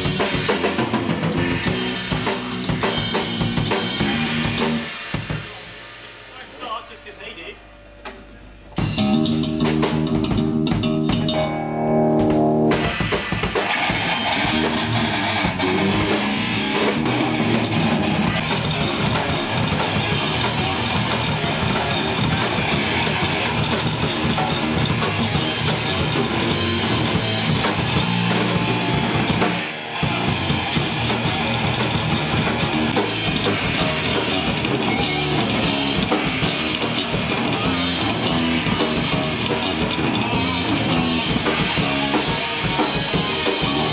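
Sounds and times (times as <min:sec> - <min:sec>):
electric guitar notes: 0:00.0 - 0:43.9
loud rock band playing: 0:00.0 - 0:43.9.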